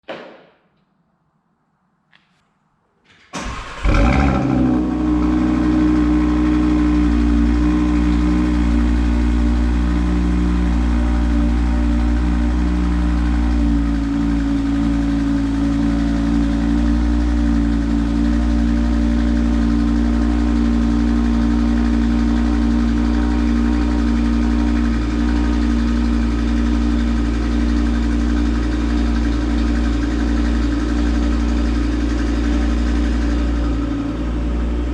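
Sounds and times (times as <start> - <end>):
car engine starting and idling: 3.1 - 34.9.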